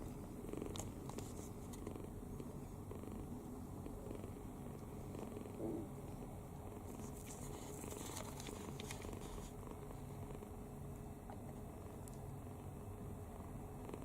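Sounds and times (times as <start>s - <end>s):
kitten snoring: 0.0s - 10.7s, 13.2s - 14.0s.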